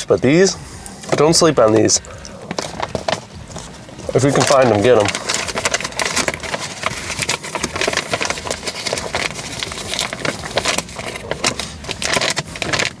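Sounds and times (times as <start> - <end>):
rustling and clicking near microphone: 1.0 - 13.0.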